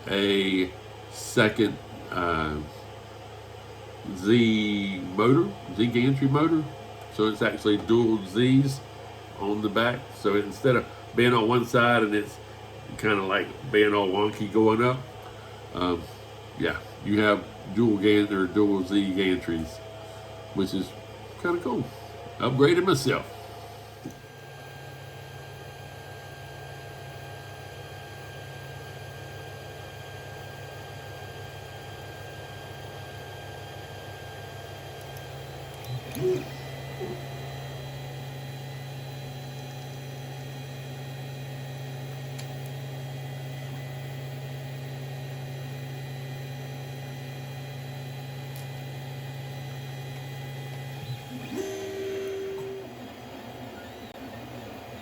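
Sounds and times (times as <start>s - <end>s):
printer humming: 0.0s - 55.0s
faint high whines: 4.0s - 30.9s, 34.9s - 46.1s, 47.6s - 55.0s.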